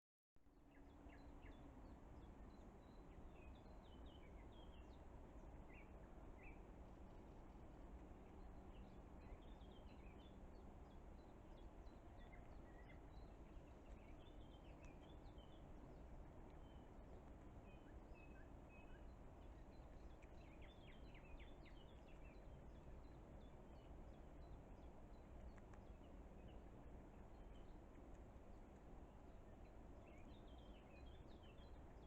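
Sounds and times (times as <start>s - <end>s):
low background rumble and hiss: 0.4s - 32.0s
songbirds chirping: 0.5s - 32.0s.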